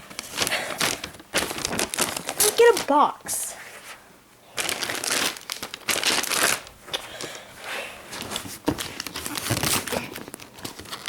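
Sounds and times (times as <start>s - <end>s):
packaging crinkling and rustling: 0.0s - 3.2s, 4.5s - 7.4s, 8.1s - 11.0s.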